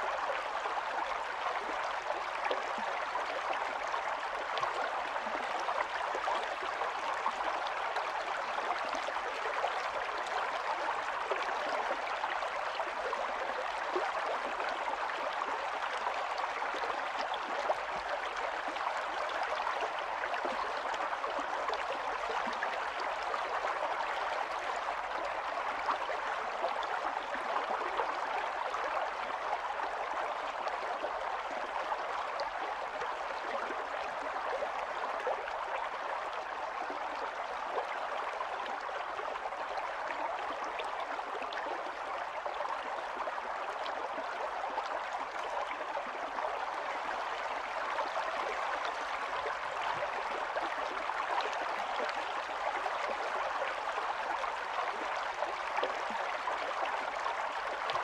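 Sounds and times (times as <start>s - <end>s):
stream burbling over stones: 0.0s - 58.0s.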